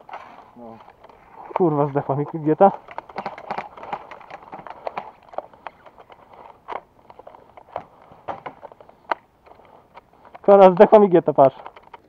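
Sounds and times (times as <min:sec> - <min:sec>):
light clicks and knocks of gear: 0:00.0 - 0:12.0.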